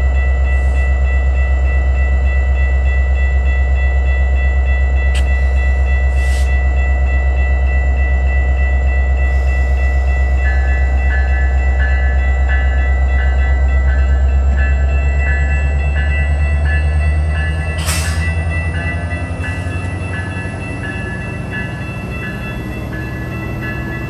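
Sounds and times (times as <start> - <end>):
bell ringing: 0.0 - 24.0
diesel train rumble: 0.0 - 24.0.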